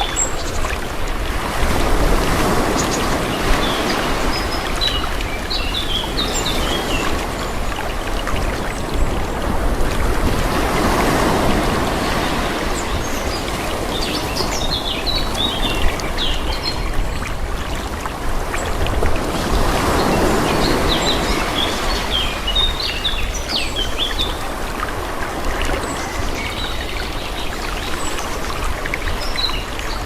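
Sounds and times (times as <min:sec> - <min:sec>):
calm sea waves washing: 0:00.0 - 0:30.0.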